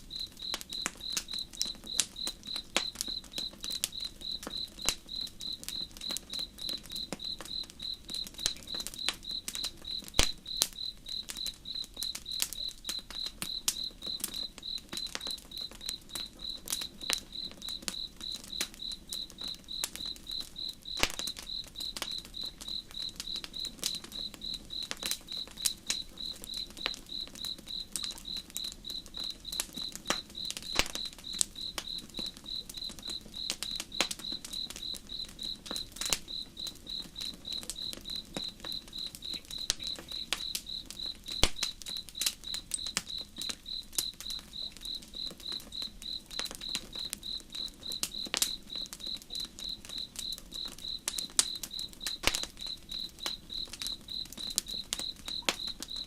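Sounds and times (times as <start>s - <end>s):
campfire crackling: 0.0s - 56.0s
cricket chirping: 0.0s - 56.0s.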